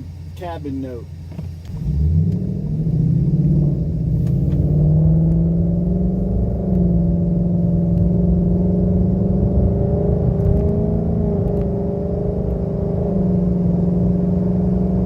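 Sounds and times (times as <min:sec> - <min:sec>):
low exhaust drone: 0:00.0 - 0:15.0.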